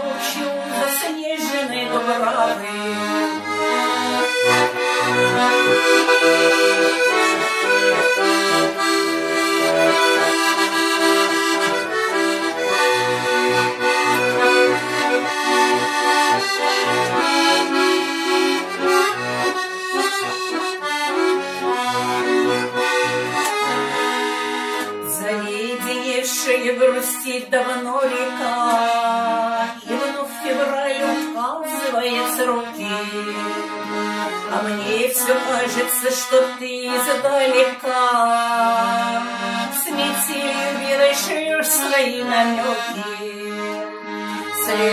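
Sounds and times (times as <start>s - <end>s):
button accordion playing: 0.0s - 44.9s.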